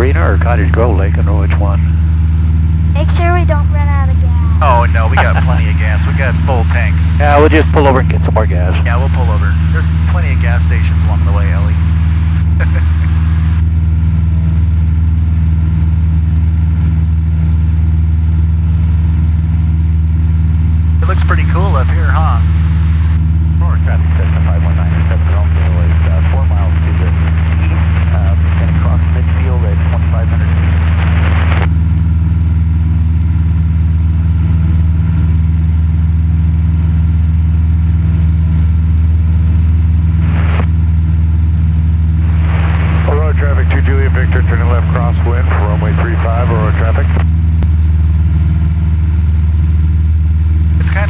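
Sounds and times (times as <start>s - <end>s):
airplane engine drone in cabin: 0.0s - 51.0s.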